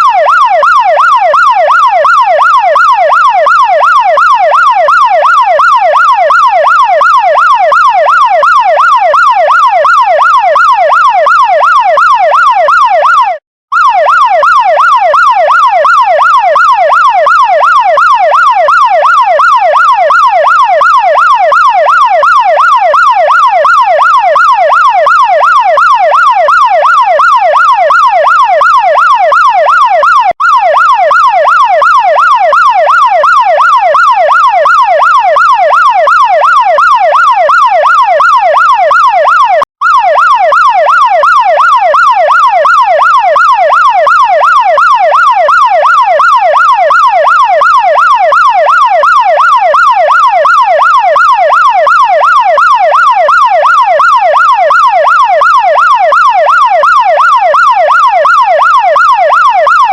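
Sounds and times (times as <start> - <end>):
fire truck siren yelping: 0.0 - 59.9.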